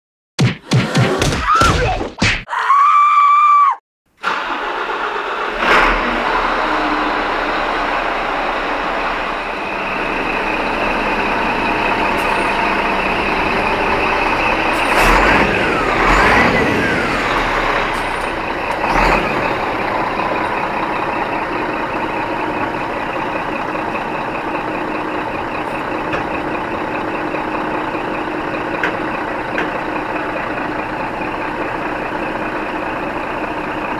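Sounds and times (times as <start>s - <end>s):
heavy truck and traffic noise: 4.2s - 33.9s.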